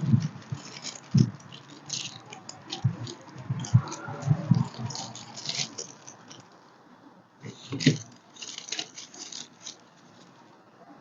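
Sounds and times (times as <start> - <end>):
aluminium foil crinkling: 0.0 - 6.7, 7.4 - 10.5.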